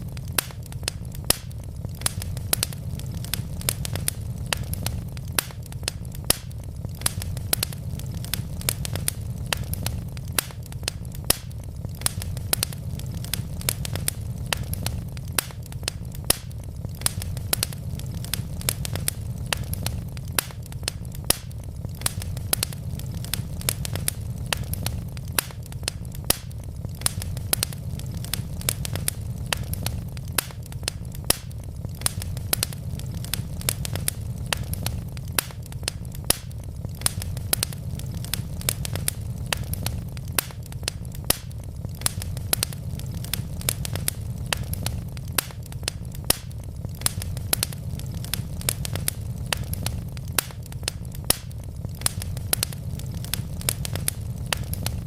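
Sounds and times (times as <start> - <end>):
fire popping: 0.0 - 55.0
low fire rumble: 0.0 - 55.0
wood fire crackling: 0.0 - 55.0.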